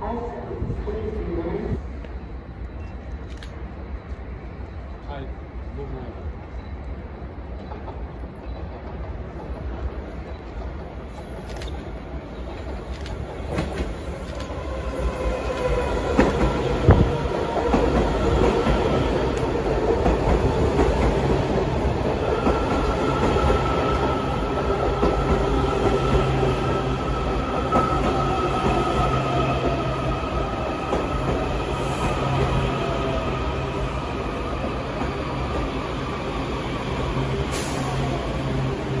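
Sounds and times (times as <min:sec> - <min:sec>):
train rumble: 0:00.0 - 0:39.0.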